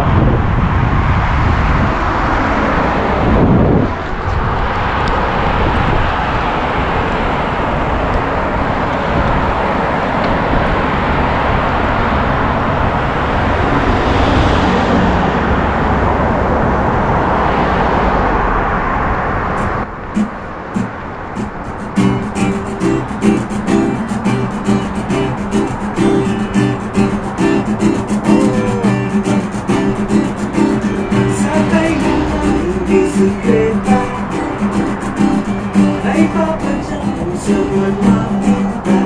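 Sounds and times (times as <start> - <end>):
passing car traffic: 0.0 - 39.0
wind rushing on microphone: 0.0 - 39.0.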